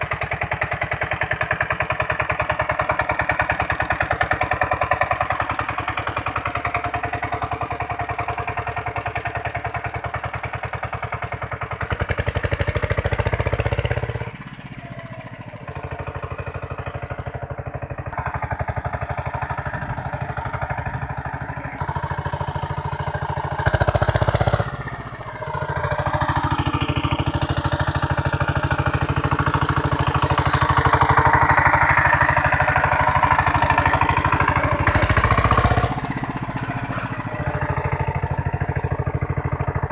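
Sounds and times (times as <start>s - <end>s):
diesel tiller engine running: 0.0s - 39.9s.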